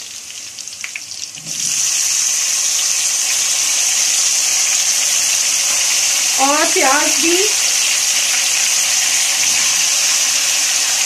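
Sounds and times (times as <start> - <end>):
tomatoes sizzling in hot oil: 0.0 - 11.0.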